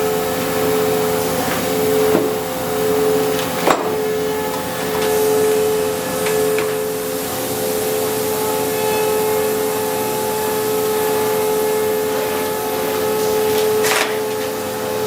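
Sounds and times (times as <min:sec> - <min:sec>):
woodworking machine humming: 0:00.0 - 0:15.0.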